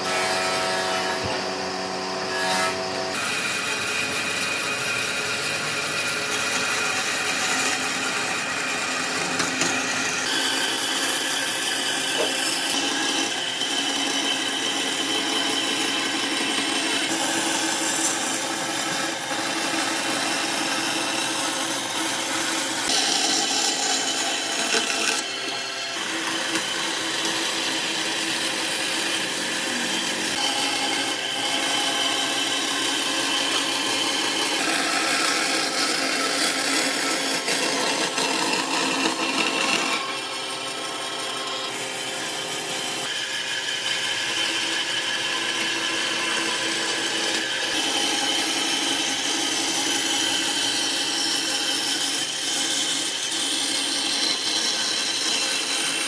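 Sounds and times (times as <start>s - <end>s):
power tool grinding wood: 0.0s - 56.0s.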